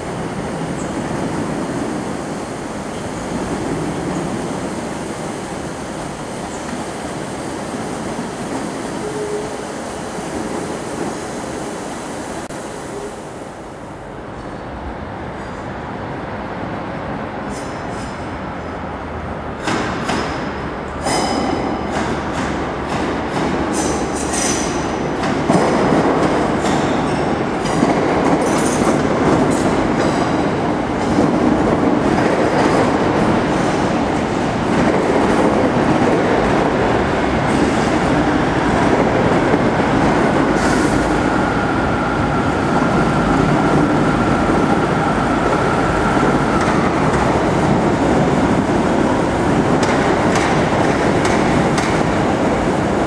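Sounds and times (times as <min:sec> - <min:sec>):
trains rumbling: 0:00.0 - 0:53.0.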